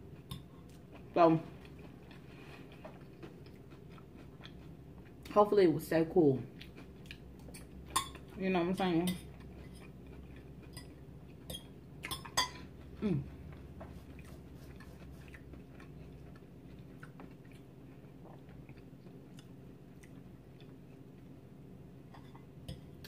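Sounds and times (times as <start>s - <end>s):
person chewing salad: 0.0s - 5.4s, 6.5s - 8.4s, 9.1s - 21.4s.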